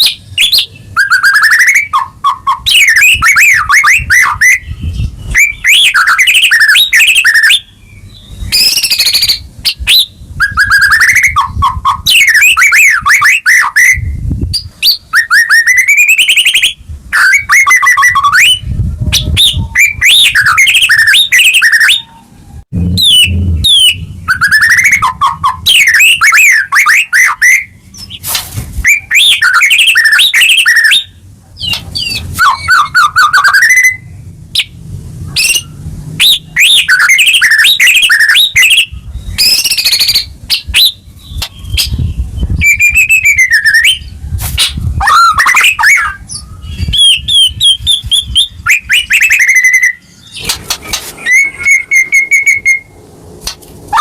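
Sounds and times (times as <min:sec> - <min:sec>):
bird singing whistles and trills: 0:00.0 - 0:28.2, 0:28.8 - 0:53.0.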